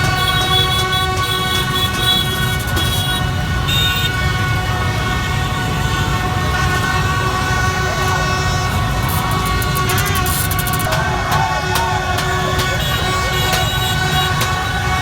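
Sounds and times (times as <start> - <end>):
motorbike traffic rumbling: 0.0 - 15.0
vehicle horns: 0.0 - 15.0.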